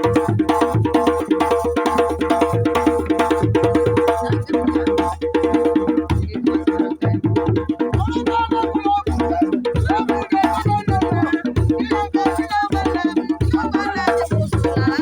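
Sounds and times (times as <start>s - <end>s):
drums: 0.0s - 15.0s
wood-block-like percussion: 0.0s - 15.0s.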